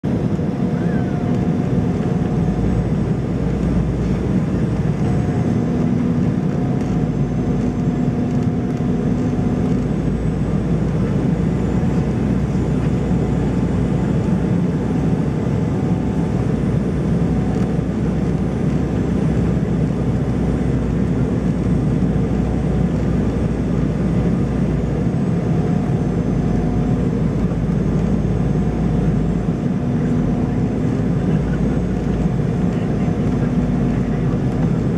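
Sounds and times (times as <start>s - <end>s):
airliner cabin engine noise: 0.0s - 34.9s.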